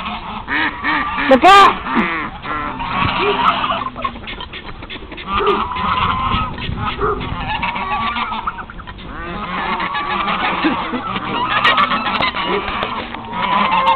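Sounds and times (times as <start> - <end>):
geese honking: 0.0 - 13.9.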